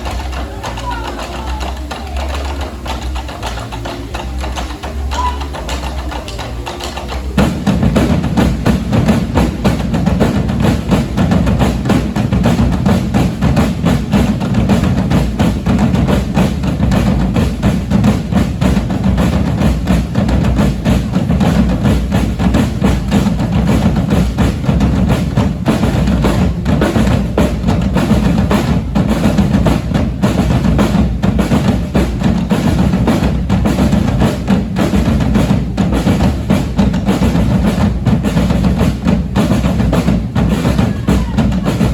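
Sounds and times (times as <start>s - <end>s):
drum ensemble playing: 0.0s - 41.9s.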